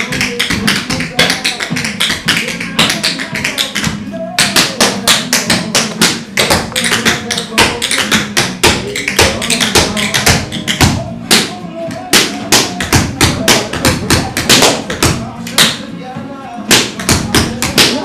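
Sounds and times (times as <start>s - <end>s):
tap shoes striking hard floor: 0.0s - 15.8s, 16.7s - 18.0s
background music: 0.0s - 18.0s.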